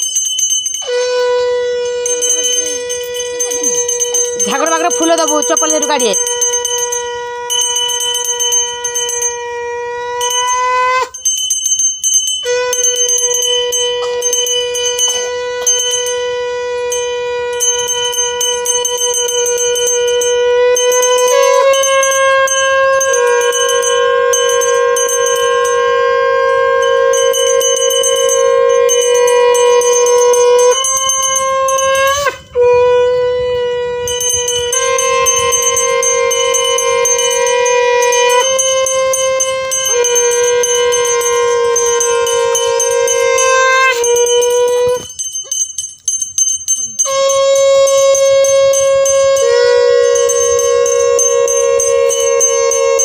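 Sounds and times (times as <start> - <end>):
conch shell blown: 0.0 - 53.0.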